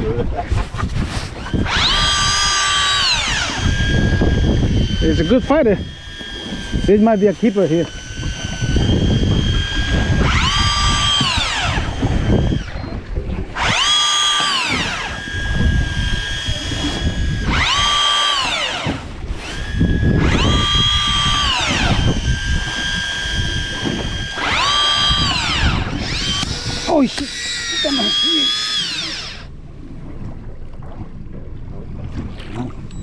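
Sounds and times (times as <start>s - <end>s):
electric fishing reel whining: 1.4s - 29.5s.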